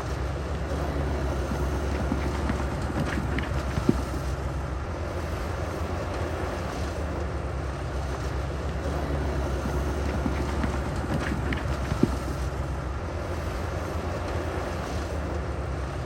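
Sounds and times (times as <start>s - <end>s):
diesel machinery engine rumble: 0.0s - 16.0s.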